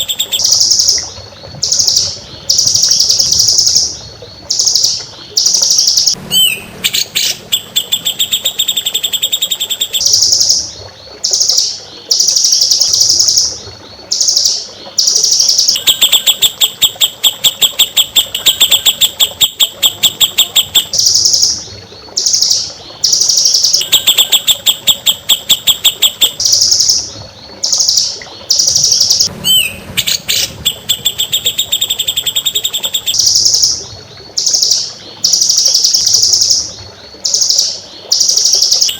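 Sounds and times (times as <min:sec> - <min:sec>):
songbird song with rapid trills: 0:00.0 - 0:38.9.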